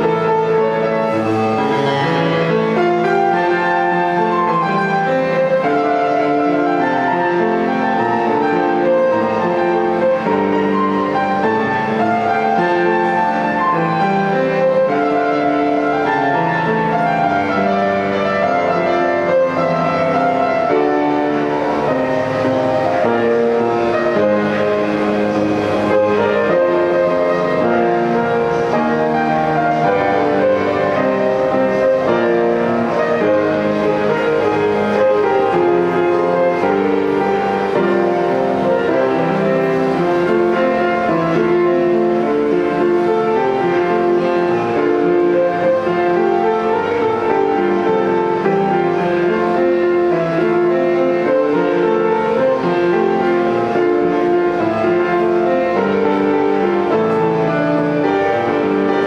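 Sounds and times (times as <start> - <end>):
piano melody over chords: 0.0 - 59.0.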